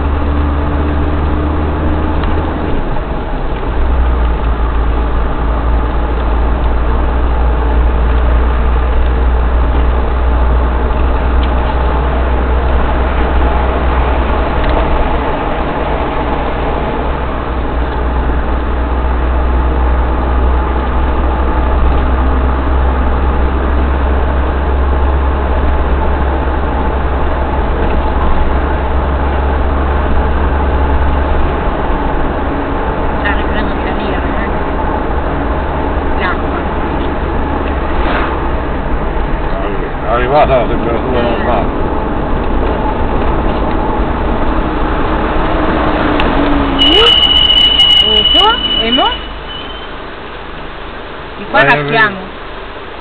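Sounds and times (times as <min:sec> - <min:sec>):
car engine and tyre drone: 0:00.0 - 0:53.0.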